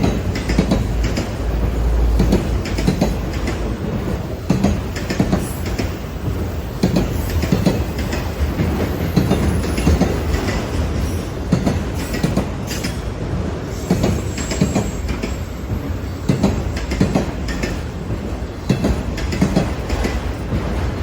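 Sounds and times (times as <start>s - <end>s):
train rumbling past: 0.0s - 21.0s
wheels clicking over rail joints: 0.0s - 21.0s.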